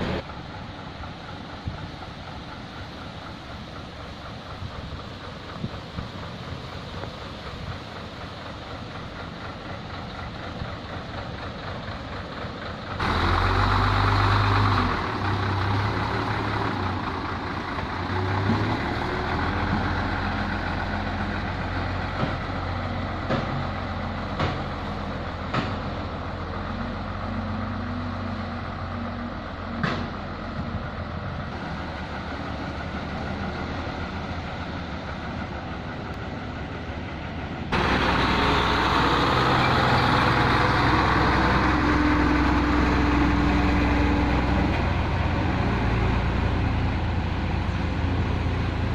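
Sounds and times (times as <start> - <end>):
heavy diesel engines running: 0.0 - 48.9.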